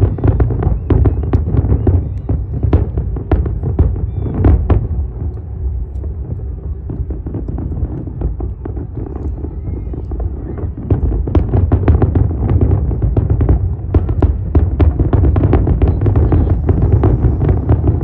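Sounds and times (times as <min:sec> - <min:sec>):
distant fireworks bursting: 0:00.0 - 0:18.0
low continuous rumble: 0:00.0 - 0:18.0.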